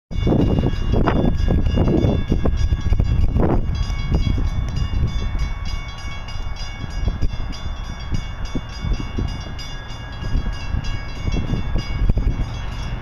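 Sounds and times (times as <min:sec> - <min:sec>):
freight train rumble: 0:00.1 - 0:13.0.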